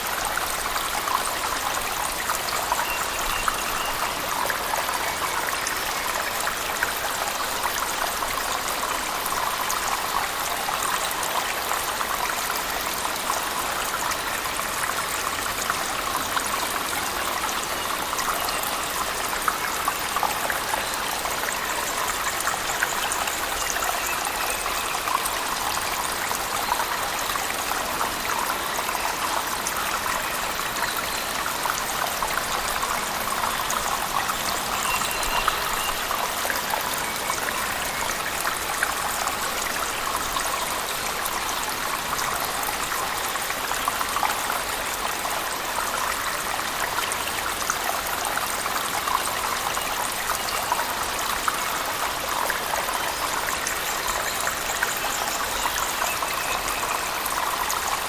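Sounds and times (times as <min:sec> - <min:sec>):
cave waterfall: 0:00.0 - 0:58.0.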